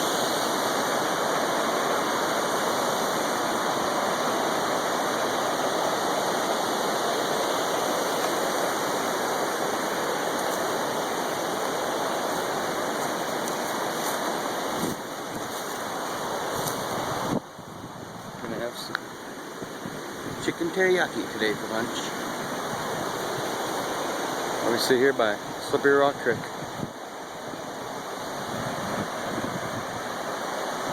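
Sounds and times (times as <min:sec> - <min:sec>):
small waterfall rushing: 0:00.0 - 0:30.9.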